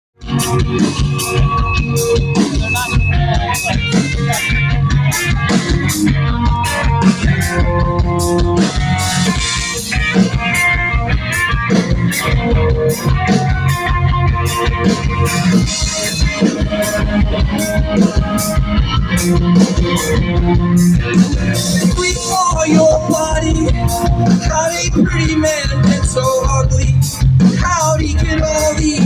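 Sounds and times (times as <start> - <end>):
drum kit with cymbal hits: 0.2 - 29.0
guitars and bass: 0.2 - 29.0.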